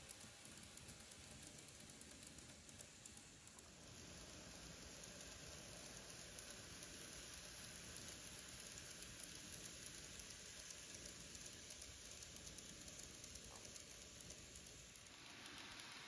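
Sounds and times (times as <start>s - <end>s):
model railway cars rattling on track: 0.0s - 16.0s.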